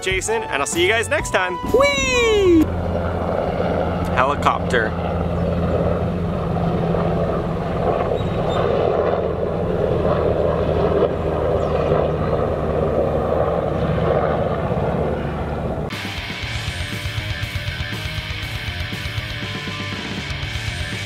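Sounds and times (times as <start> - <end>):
helicopter flying over: 0.0 - 21.0.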